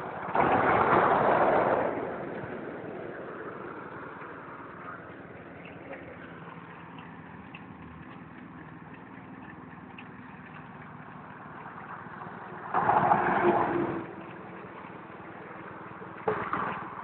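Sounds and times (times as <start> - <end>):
small petrol engine idling: 2.2 - 12.7, 13.8 - 17.0.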